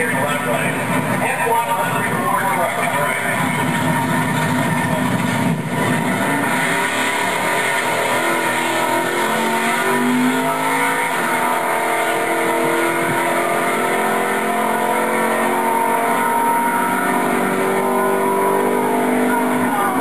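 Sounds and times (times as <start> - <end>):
engine accelerating at full throttle: 0.0 - 20.0.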